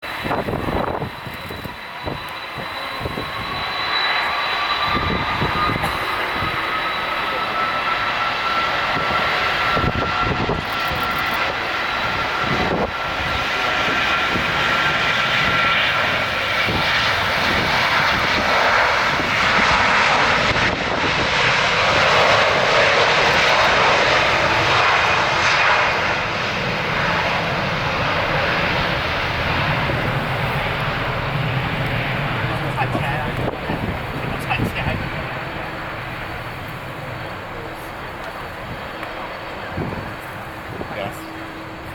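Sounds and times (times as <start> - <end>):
high engine whine: 0.0 - 41.9
jet engines roaring: 0.0 - 41.9.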